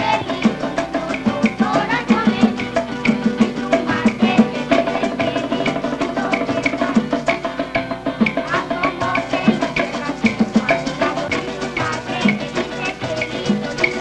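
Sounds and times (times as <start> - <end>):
latin band music: 0.0 - 14.0
maracas shaking: 0.0 - 14.0.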